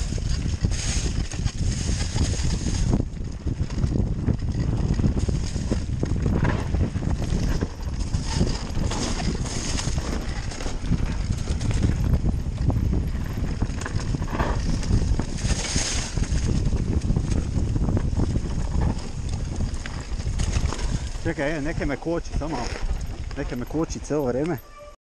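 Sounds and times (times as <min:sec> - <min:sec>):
bike tyres rumbling on dirt: 0:00.0 - 0:24.4
bike chain and parts clattering: 0:00.0 - 0:24.9.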